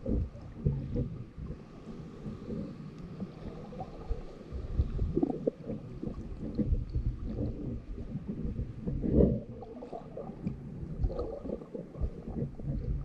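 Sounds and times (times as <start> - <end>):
muffled underwater gurgling: 0.0 - 13.0.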